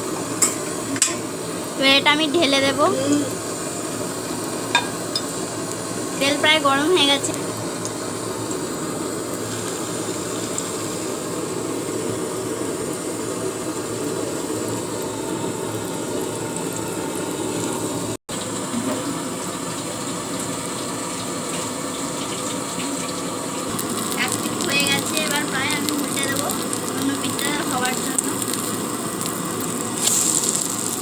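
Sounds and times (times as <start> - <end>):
batter sizzling in oil: 0.0 - 31.0.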